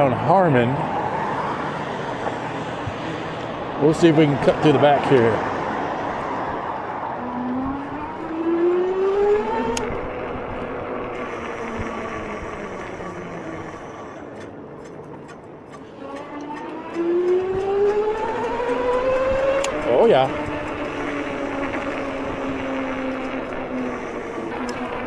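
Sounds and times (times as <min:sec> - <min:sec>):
steady rushing noise: 0:00.0 - 0:16.0, 0:16.7 - 0:25.0
electric motor whining: 0:00.6 - 0:25.0.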